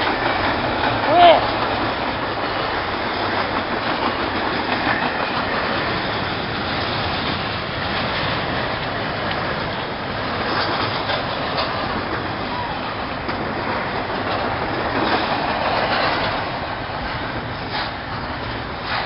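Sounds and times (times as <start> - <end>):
steel wheels on rails: 0.0 - 19.0
wheels clattering over rail joints: 0.0 - 19.0.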